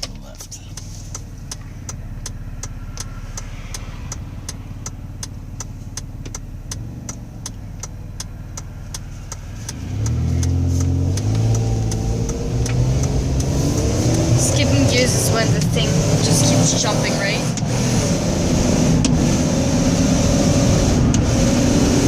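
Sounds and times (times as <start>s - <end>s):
car engine running and revving: 0.0s - 22.0s
turn signal ticking: 0.0s - 22.0s.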